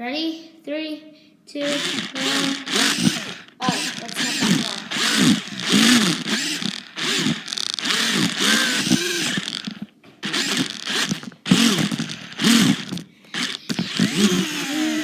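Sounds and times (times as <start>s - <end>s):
toy car electric motor whirring: 1.6s - 15.0s.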